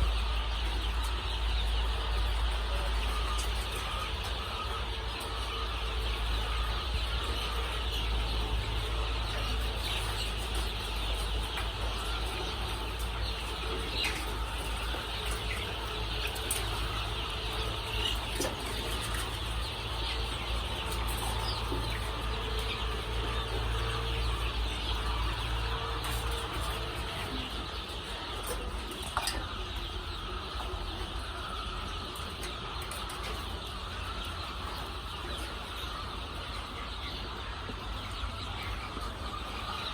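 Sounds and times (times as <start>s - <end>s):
chicks cheeping: 0.0s - 39.9s
low mechanical hum: 0.0s - 39.9s.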